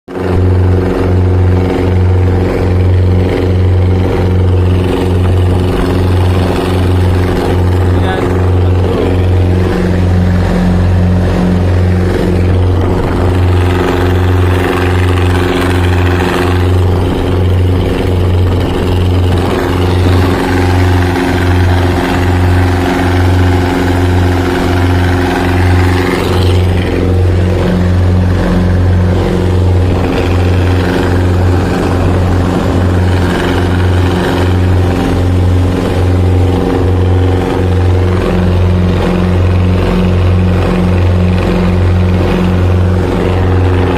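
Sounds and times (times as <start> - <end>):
boat engine humming: 0.1 - 43.9.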